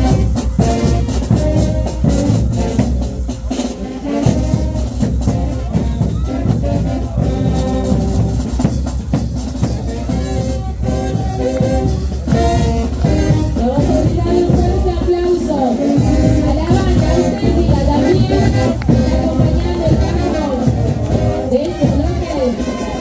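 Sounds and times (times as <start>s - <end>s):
brass band playing dance music: 0.0s - 23.0s
steady drum beat: 0.0s - 23.0s.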